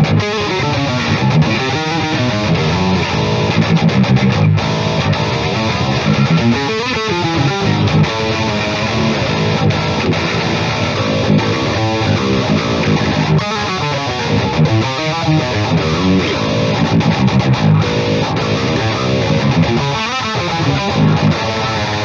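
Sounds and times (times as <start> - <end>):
distorted electric guitar riff: 0.0 - 22.0.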